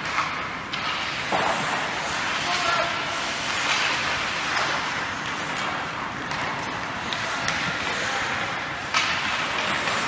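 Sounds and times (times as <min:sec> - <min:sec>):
arena noise: 0:00.0 - 0:10.0.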